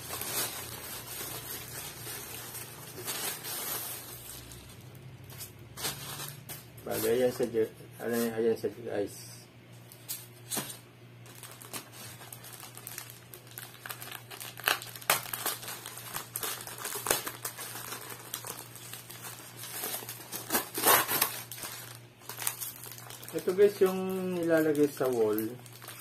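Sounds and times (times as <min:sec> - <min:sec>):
plastic bags crinkling: 0:00.0 - 0:08.2, 0:11.2 - 0:26.0.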